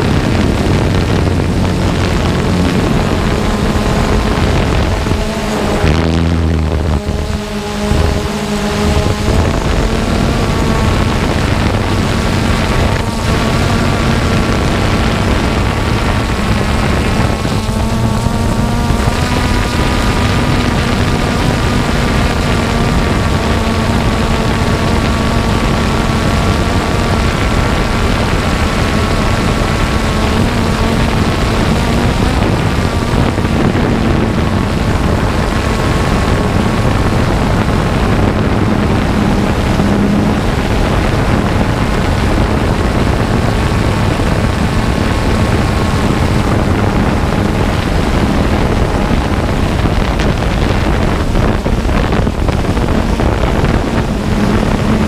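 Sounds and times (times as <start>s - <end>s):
dense rushing noise: 0.0s - 55.0s
drone propellers buzzing: 0.0s - 55.0s.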